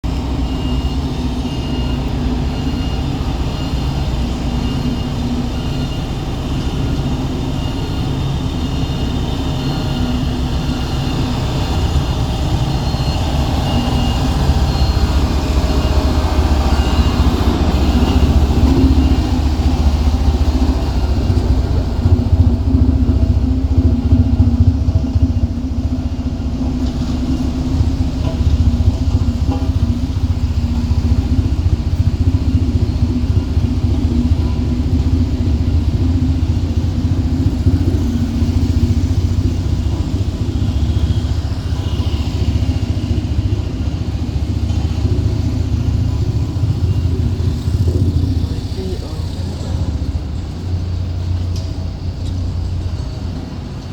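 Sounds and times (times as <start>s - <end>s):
diesel engine of heavy machinery: 0.0s - 53.9s.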